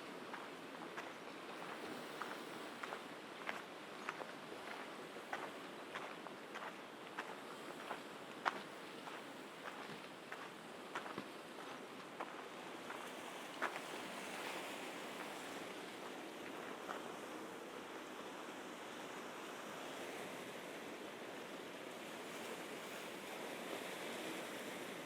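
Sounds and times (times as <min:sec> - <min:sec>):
sea waves washing on shore: 0:00.0 - 0:25.0.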